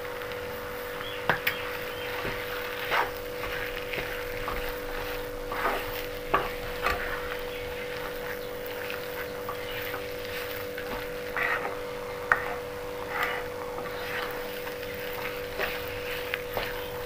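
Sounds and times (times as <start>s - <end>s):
steady hum: 0.0s - 17.0s
spatula stirring sticky food: 0.1s - 17.0s
spatula scraping and knocking pan: 1.1s - 17.0s.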